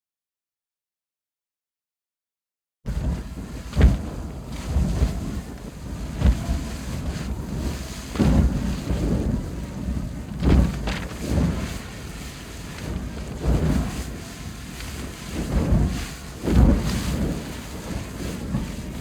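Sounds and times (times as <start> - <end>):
wind buffeting microphone: 2.9 - 19.0.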